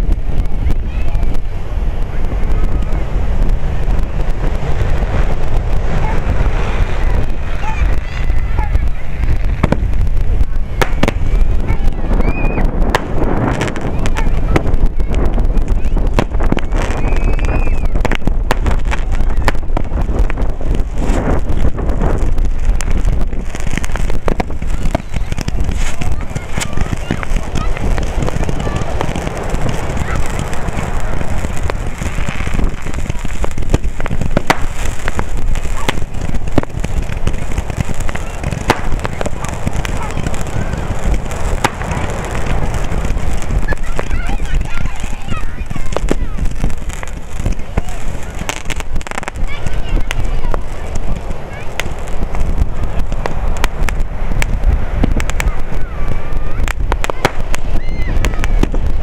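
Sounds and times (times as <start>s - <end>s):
fireworks bangs and crackles: 0.0s - 59.0s
heavy low rumble: 0.0s - 59.0s
wind buffeting microphone: 0.0s - 59.0s.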